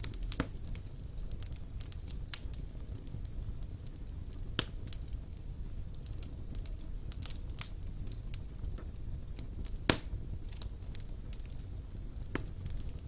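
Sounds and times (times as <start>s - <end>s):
burning logs crackling and popping: 0.0s - 13.0s
low rumble of flames: 0.0s - 13.0s.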